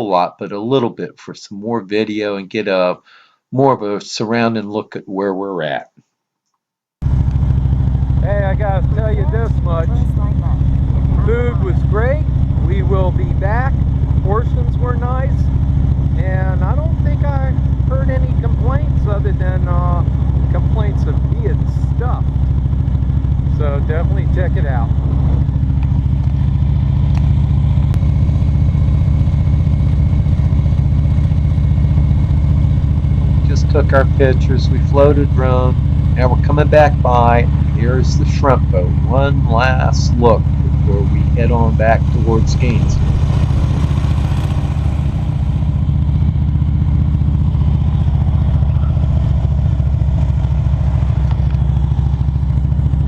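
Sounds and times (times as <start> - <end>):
motorcycle engine running: 7.0 - 53.0.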